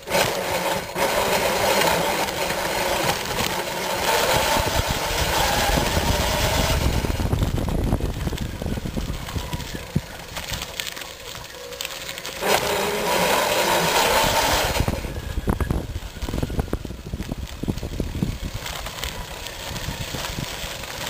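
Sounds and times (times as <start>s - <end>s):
bicycle rattling over rough surface: 0.0s - 21.0s
electric motor whirring and whining: 0.0s - 21.0s.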